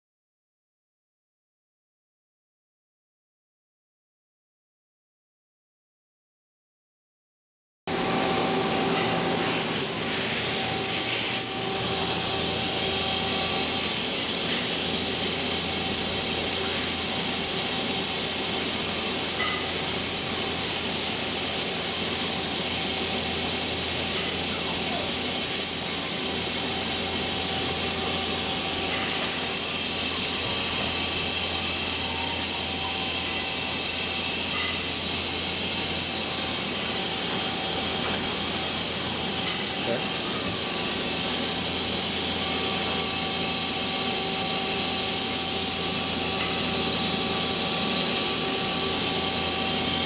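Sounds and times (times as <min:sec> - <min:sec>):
faint steady whines: 0:07.9 - 0:50.0
lathe machine humming: 0:07.9 - 0:50.0.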